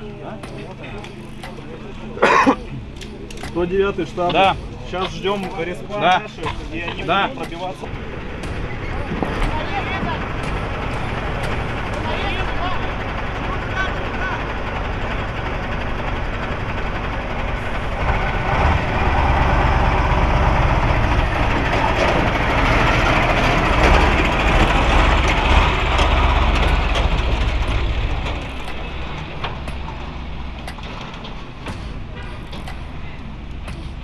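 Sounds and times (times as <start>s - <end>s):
heavy vehicle engine rumbling: 0.0s - 34.0s.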